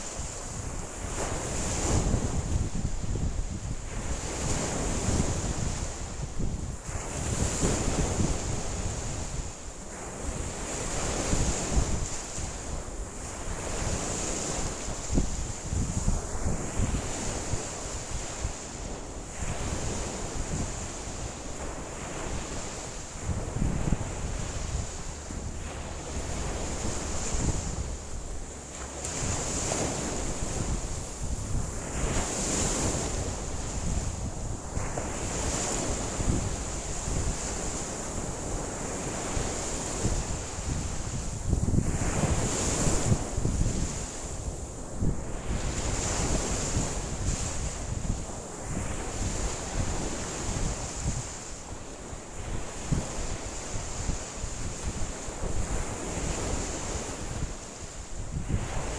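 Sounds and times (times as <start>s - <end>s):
wind gusting across microphone: 0.0s - 58.9s
lake waves breaking on shore: 7.0s - 58.9s.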